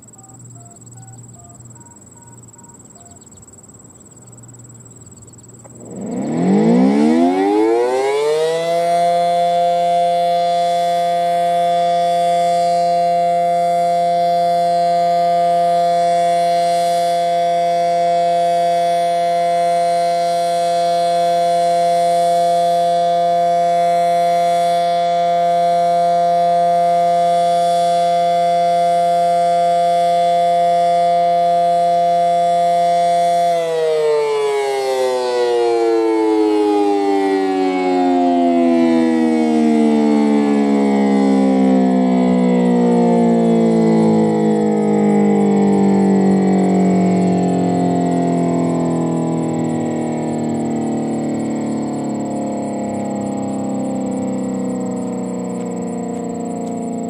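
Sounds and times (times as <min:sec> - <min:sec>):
two-tone warning siren wailing: 0:00.0 - 0:57.0.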